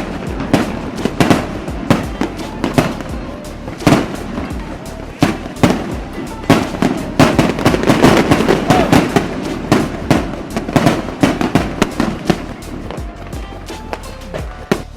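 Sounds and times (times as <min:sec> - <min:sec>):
fireworks bangs and crackles: 0:00.0 - 0:14.9.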